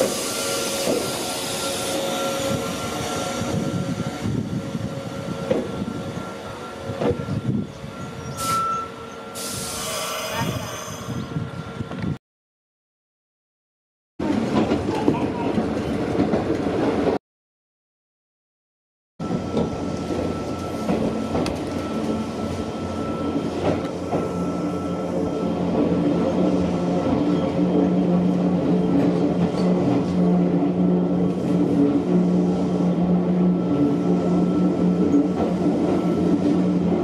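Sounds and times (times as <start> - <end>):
train hum: 0.0 - 12.2, 19.2 - 37.0.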